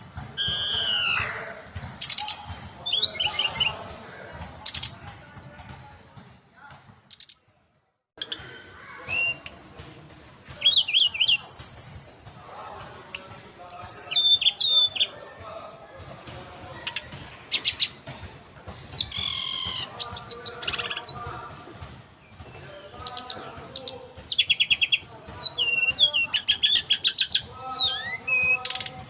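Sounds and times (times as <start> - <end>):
songbird singing: 0.0 - 5.0, 8.2 - 12.0, 12.6 - 29.0.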